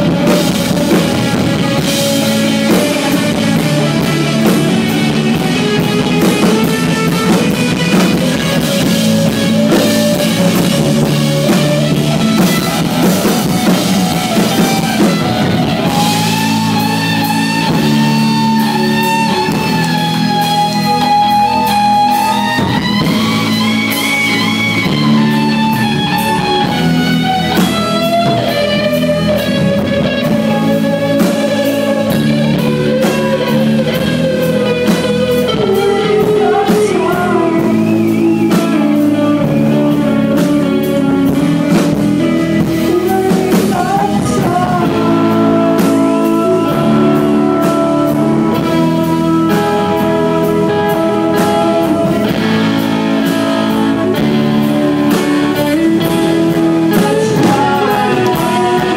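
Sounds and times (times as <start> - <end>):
bending lead guitar notes: 0.0 - 58.9
live rock band playing: 0.0 - 58.9.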